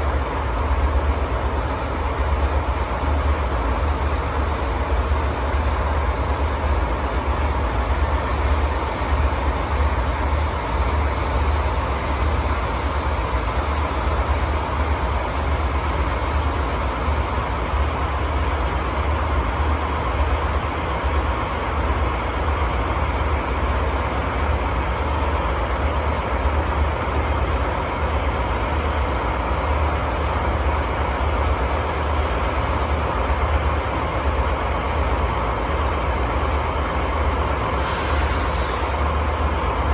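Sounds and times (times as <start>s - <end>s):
diesel locomotive engines rumbling: 0.0s - 39.9s.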